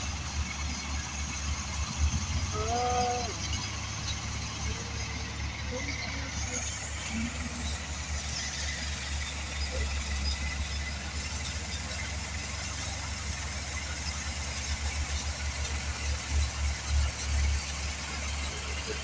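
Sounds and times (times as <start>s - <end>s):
heavy machine engine idling: 0.0s - 19.0s.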